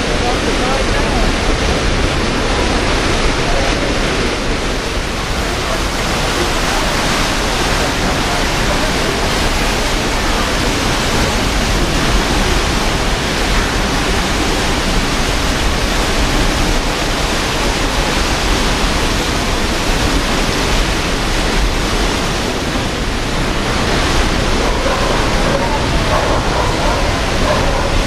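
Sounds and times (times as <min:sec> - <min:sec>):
churning water roar: 0:00.0 - 0:28.0.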